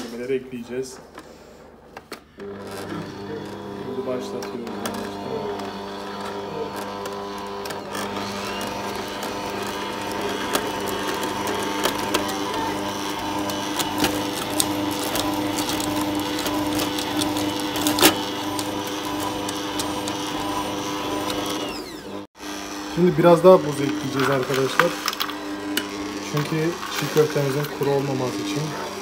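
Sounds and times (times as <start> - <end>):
stand mixer motor humming: 1.7 - 29.0.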